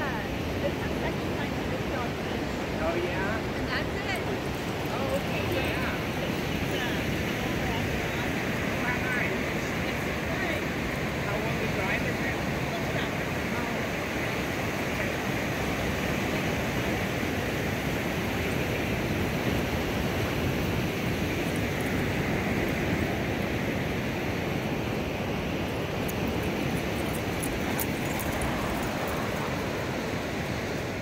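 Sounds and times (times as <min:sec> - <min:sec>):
ocean surf rushing: 0:00.0 - 0:31.0.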